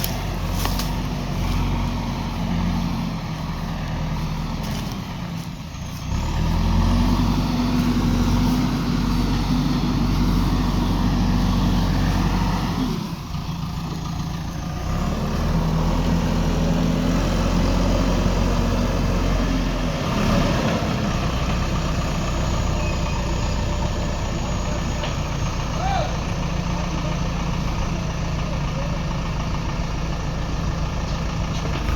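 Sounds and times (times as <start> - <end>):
diesel engine revving: 0.0 - 31.9.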